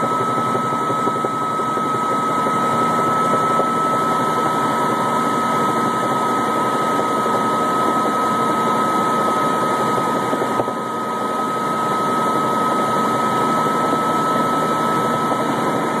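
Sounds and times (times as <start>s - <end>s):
helicopter engine and rotors: 0.0s - 16.0s.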